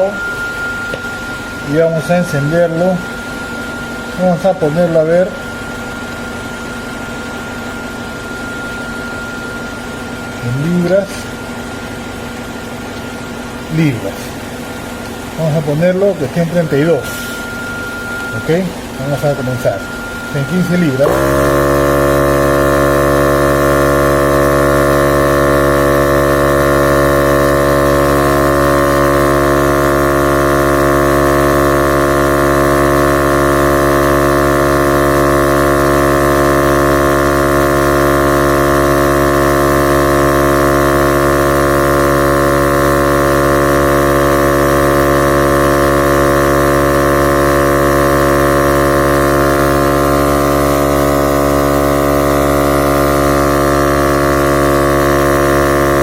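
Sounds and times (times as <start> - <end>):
tire inflator compressor running: 0.0 - 56.0.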